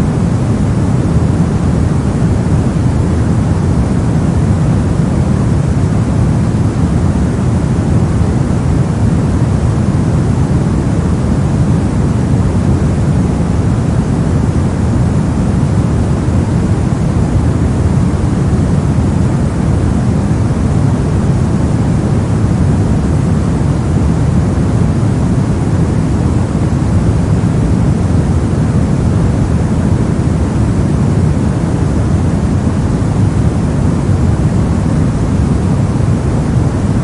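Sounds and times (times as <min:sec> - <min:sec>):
soft deep relaxation noise: 0:00.0 - 0:37.0.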